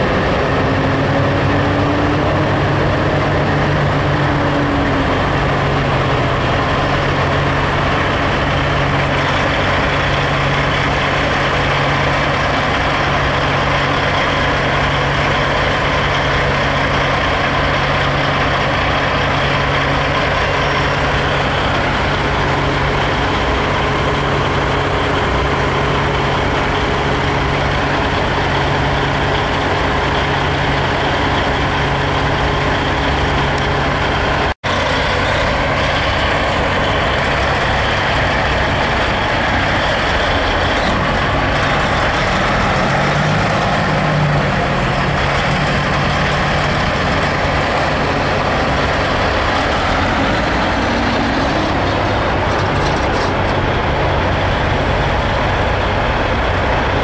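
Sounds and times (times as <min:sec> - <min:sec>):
diesel truck engines idling: 0:00.0 - 0:57.0.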